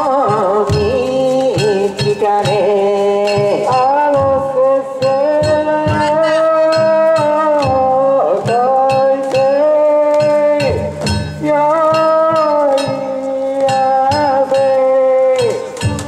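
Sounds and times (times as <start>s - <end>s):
drum and gong beats: 0.0s - 16.0s
loud held melody line: 0.0s - 16.0s.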